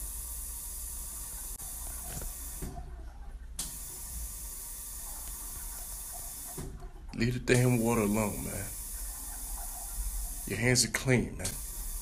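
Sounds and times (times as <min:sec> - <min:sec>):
faucet water running into sink: 0:00.0 - 0:02.9, 0:03.6 - 0:12.0.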